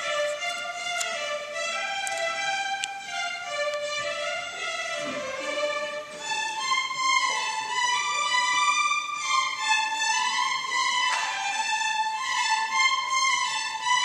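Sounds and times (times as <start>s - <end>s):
violin playing melody: 0.0s - 14.0s.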